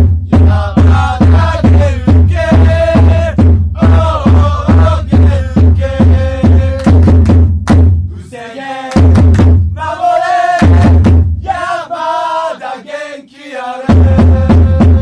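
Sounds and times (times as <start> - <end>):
rapid drum beats: 0.0 - 8.1, 8.8 - 11.9, 13.8 - 15.0
crowd chanting: 0.4 - 7.0, 8.2 - 15.0.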